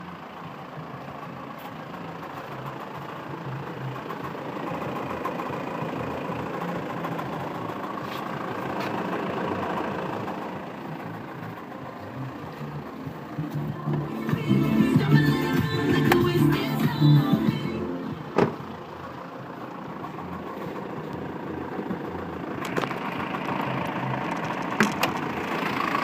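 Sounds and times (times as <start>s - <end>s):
engine knock: 0.0s - 13.4s, 18.4s - 26.0s
diesel engine running: 0.0s - 26.0s.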